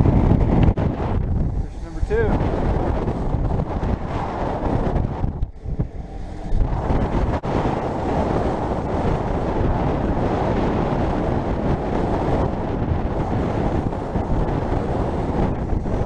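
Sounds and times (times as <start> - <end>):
boat rushing through choppy sea: 0.0 - 16.0
wind buffeting microphone: 0.0 - 16.0.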